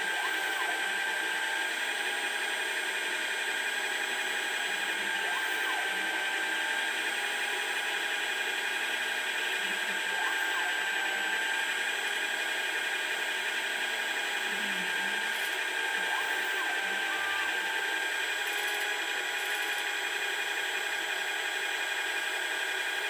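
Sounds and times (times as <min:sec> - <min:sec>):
lathe motors whining: 0:00.0 - 0:23.0.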